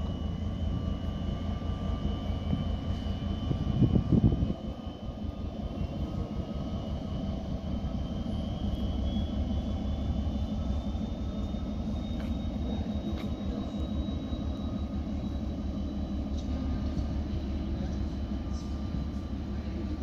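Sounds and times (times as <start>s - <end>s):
faint high whine: 0.0s - 20.0s
train rumbling past: 0.0s - 20.0s.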